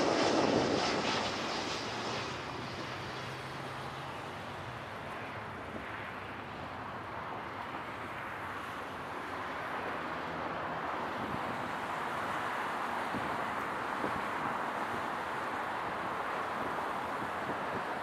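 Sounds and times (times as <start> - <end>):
jet airliner landing: 0.0 - 18.0.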